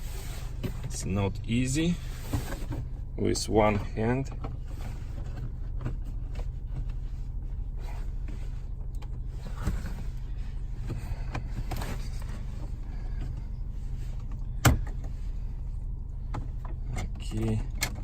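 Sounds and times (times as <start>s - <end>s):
low cabin hum: 0.0s - 18.0s.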